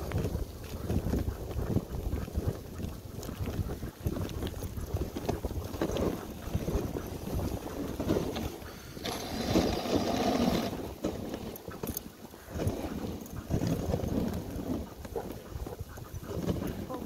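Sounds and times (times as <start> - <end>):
sled runners hissing on snow: 0.0 - 17.0
wind on microphone: 0.0 - 17.0.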